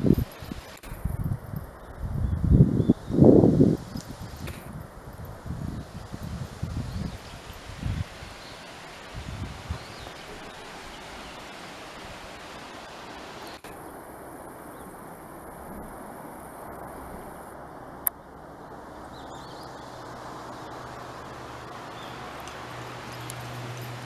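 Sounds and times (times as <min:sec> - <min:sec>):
wind in trees: 0:00.0 - 0:24.0.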